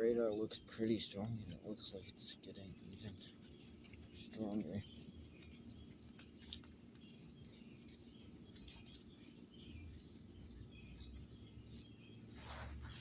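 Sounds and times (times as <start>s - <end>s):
faint high chirps and ticks: 0.0s - 12.3s.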